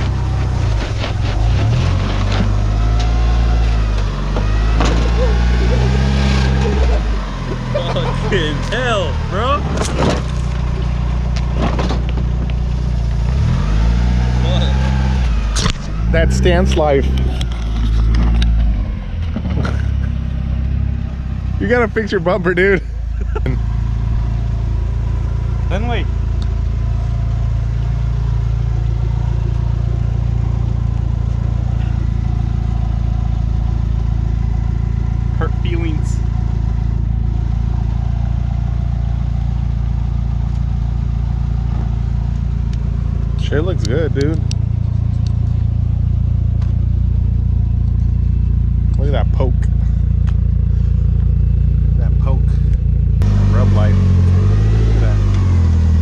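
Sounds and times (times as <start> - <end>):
car engine at low revs: 0.0 - 56.0.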